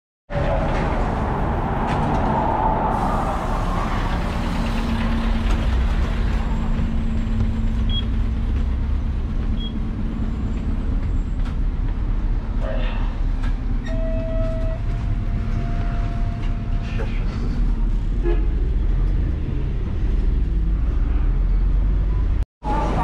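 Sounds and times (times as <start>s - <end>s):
bus engine drone: 0.3s - 23.0s.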